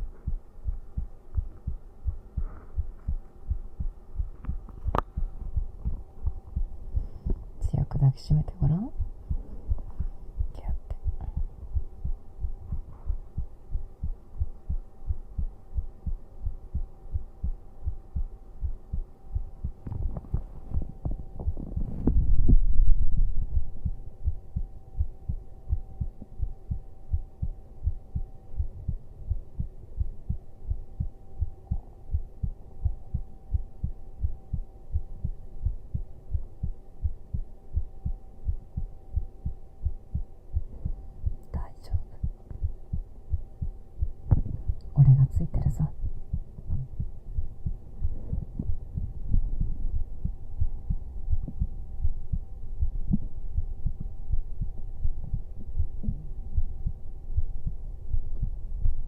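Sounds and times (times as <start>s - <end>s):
faint steady hum: 0.0s - 59.0s
heartbeat thumps: 0.0s - 59.0s
low rumble: 0.0s - 59.0s.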